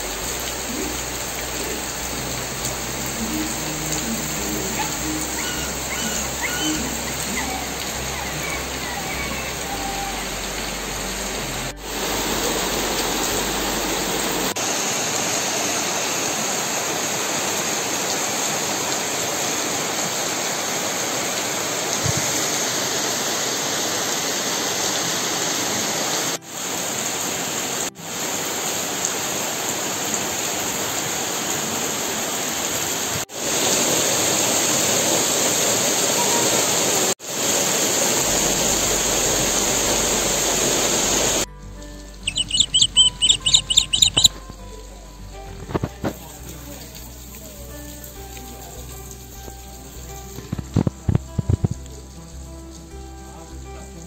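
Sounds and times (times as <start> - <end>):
heavy rain on foliage: 0.0 - 54.0.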